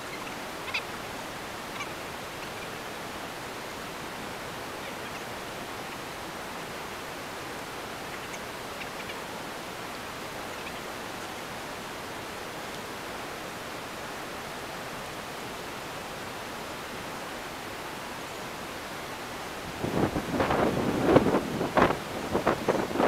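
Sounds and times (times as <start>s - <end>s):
wind hiss on microphone: 0.0s - 23.0s.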